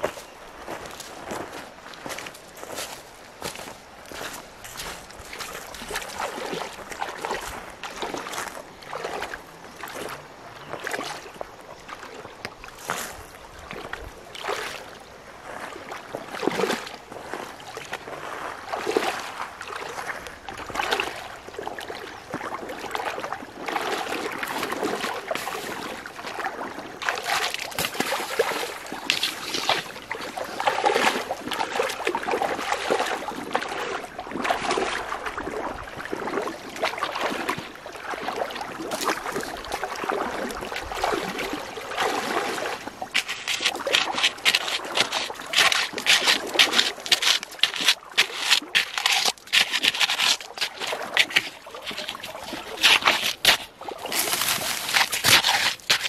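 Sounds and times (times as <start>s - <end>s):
legs wading through shallow water: 0.0s - 56.0s.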